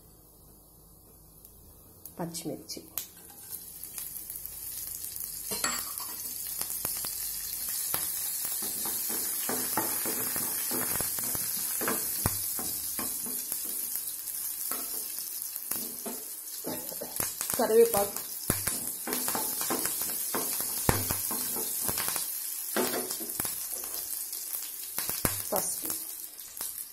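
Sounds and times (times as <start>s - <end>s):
chillies sizzling in hot oil: 0.0s - 26.9s.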